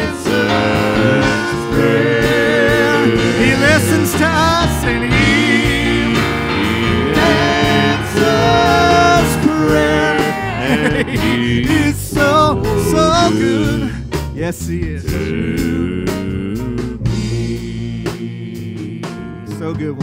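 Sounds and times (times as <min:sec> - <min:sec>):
people singing: 0:00.0 - 0:20.0
worship band playing gospel: 0:00.0 - 0:20.0.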